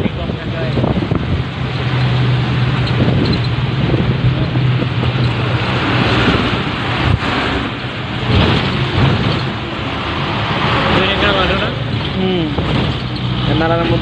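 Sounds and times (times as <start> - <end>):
low engine hum: 0.0 - 14.0
wind and road noise: 0.0 - 14.0
vehicle passing close by: 0.8 - 14.0.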